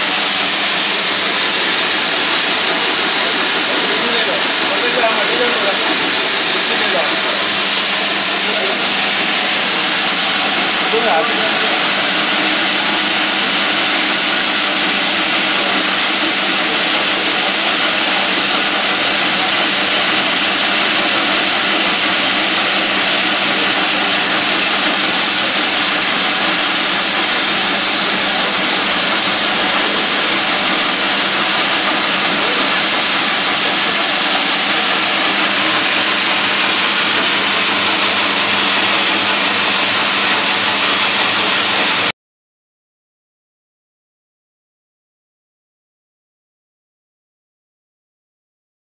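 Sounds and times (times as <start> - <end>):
machine running with rush: 0.0 - 42.1
motor hum: 0.0 - 42.1.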